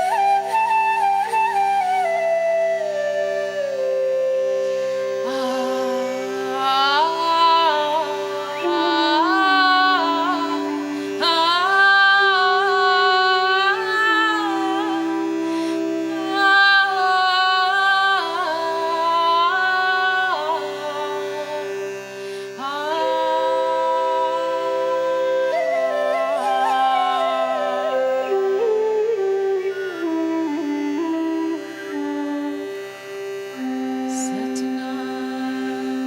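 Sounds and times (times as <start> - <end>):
devotional sliding melody: 0.0 - 36.0.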